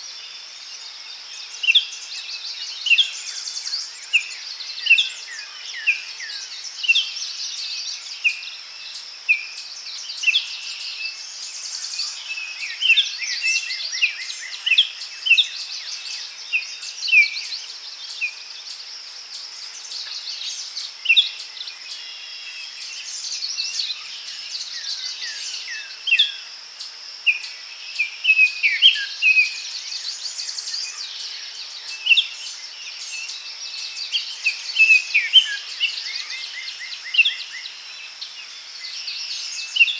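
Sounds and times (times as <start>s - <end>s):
small birds chirping: 0.0s - 39.9s
steady high-pitched hiss: 0.0s - 39.9s.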